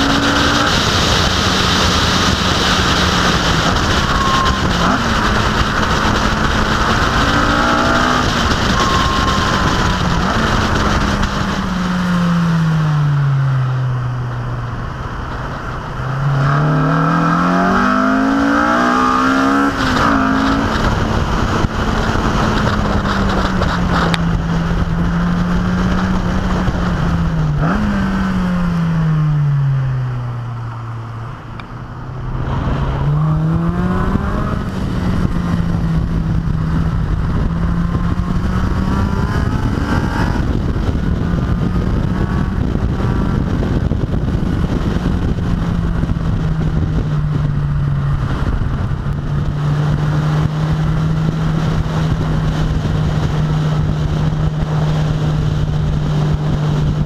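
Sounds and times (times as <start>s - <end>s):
sports car engine revving: 0.0s - 57.0s
wind rushing: 0.0s - 57.0s.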